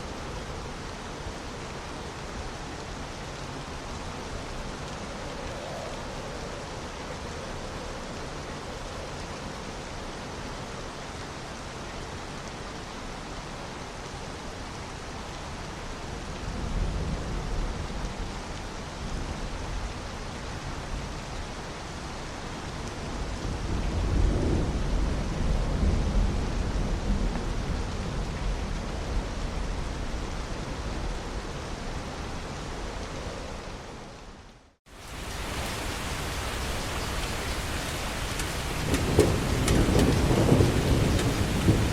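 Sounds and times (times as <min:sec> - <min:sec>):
rain: 0:00.0 - 0:41.9
wind: 0:00.0 - 0:41.9.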